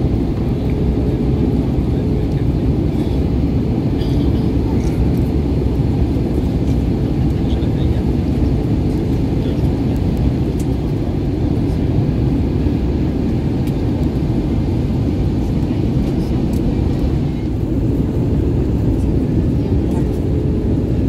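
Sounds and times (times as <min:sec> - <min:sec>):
airflow over fuselage: 0:00.0 - 0:21.0
jet engine rumble in cabin: 0:00.0 - 0:21.0.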